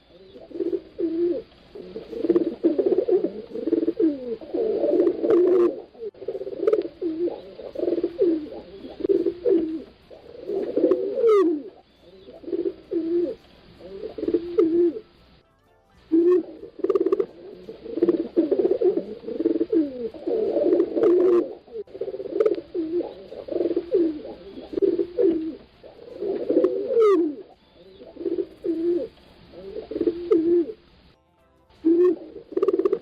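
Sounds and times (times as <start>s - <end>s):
pigeons cooing: 0.0s - 15.4s, 16.1s - 31.1s, 31.8s - 33.0s.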